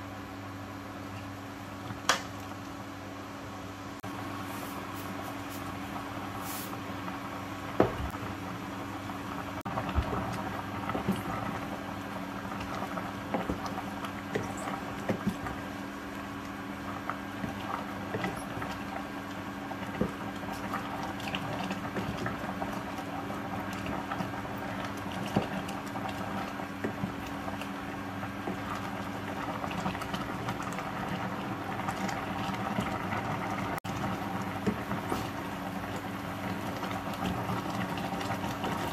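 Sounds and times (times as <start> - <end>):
broth simmering in a pot: 0.0 - 38.9
steady hum: 0.0 - 38.9.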